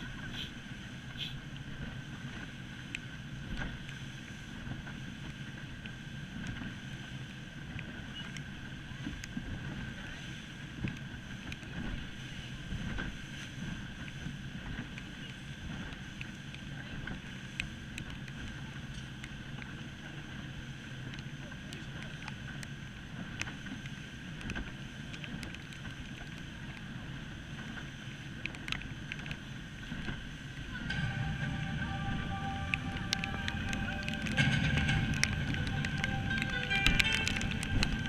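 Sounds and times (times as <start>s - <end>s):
boat engine running: 0.0s - 38.0s
water noise: 0.0s - 38.0s
wind: 0.0s - 38.0s.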